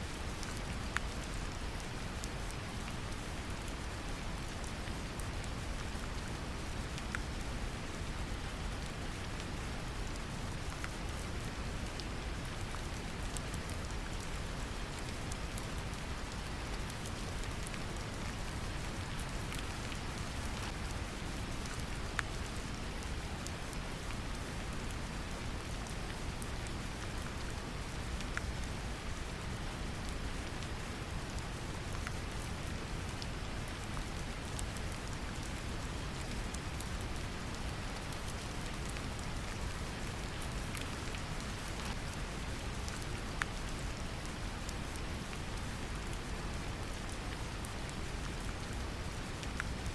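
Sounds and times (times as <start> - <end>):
gentle rain: 0.0 - 49.9.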